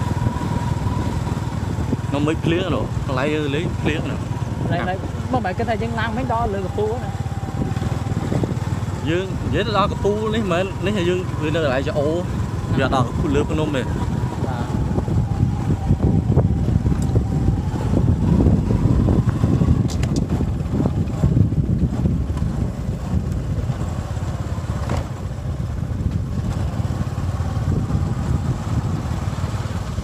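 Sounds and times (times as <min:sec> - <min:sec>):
low rumbling noise: 0:00.0 - 0:30.0
motorcycle engine: 0:00.0 - 0:30.0.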